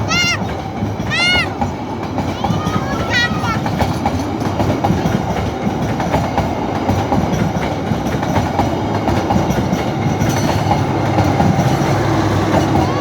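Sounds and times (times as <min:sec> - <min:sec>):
train wheels rumbling on rails: 0:00.0 - 0:13.0
wheels clicking and clacking: 0:00.0 - 0:13.0.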